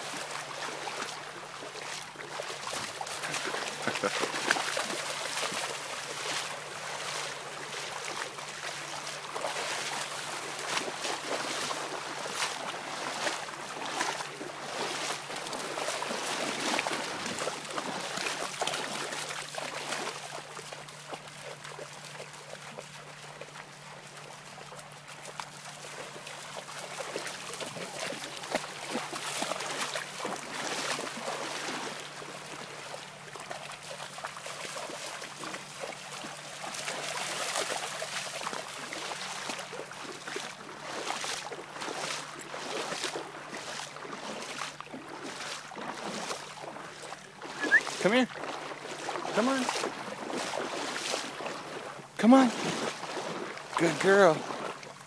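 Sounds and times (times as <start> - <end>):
dog splashing through shallow water: 0.0 - 55.0.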